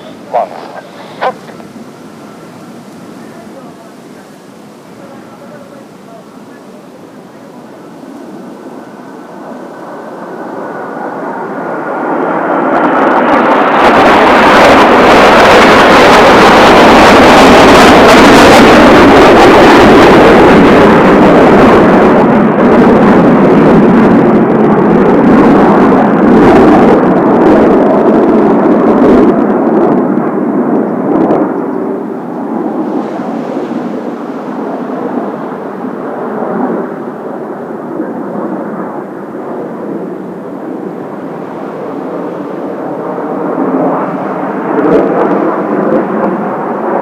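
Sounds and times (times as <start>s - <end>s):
jet aircraft passing overhead: 0.0s - 47.0s.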